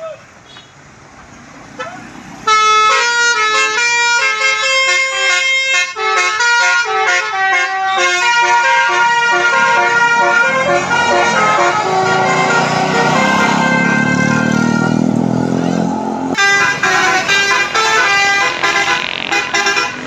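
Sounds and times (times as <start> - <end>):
engine and traffic noise: 0.0 - 20.0
musical bus air horn: 1.8 - 15.2, 16.3 - 20.0.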